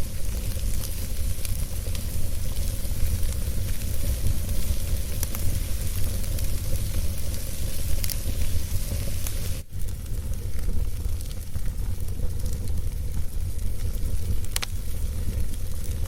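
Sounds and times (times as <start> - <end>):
fire crackles and pops: 0.0 - 16.0
wood fire rumbling and hissing: 0.0 - 16.0.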